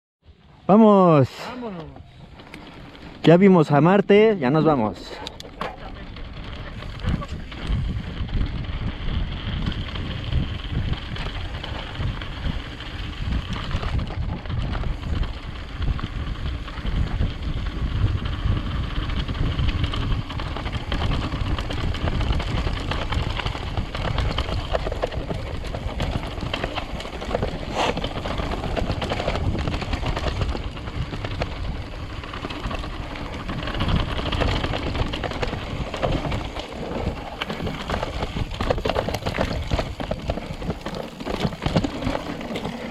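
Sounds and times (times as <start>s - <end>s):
bike rattling: 0.5s - 42.9s
tyres rumbling on dirt: 0.8s - 42.9s
wind buffeting microphone: 4.6s - 42.9s.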